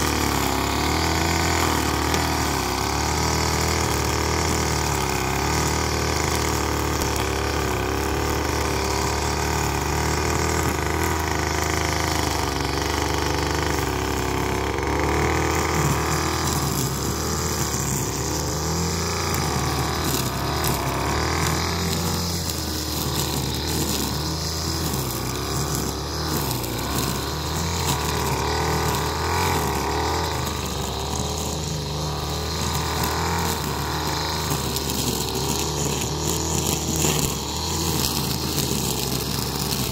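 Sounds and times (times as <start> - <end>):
string trimmer running: 0.0 - 39.9.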